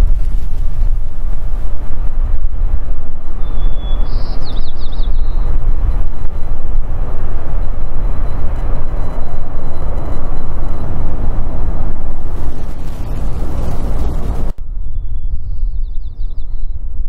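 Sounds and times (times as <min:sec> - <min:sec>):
jet engines at takeoff thrust: 0:00.0 - 0:14.6.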